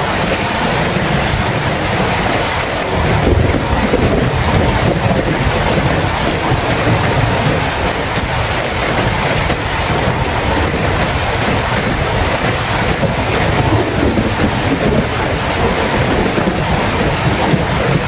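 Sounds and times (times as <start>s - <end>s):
constant low rumble: 0.0s - 18.0s
heavy rain falling: 0.0s - 18.0s.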